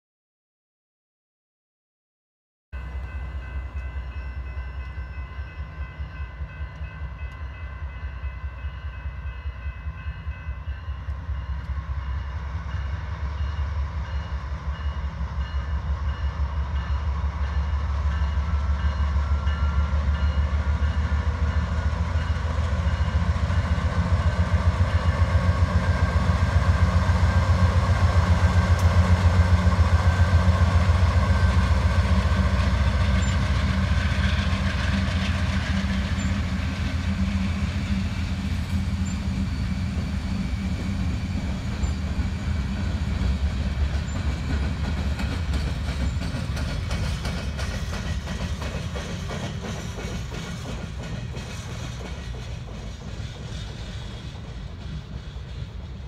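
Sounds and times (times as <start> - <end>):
diesel locomotive engine throb: 2.8 - 56.0.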